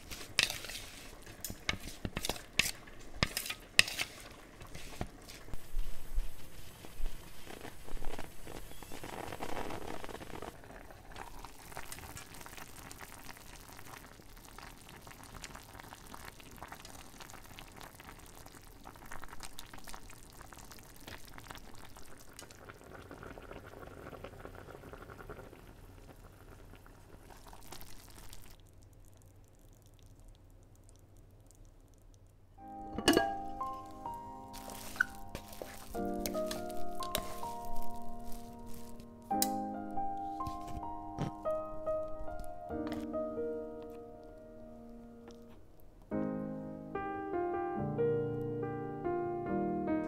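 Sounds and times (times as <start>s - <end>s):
pot of broth bubbling: 0.0s - 43.0s.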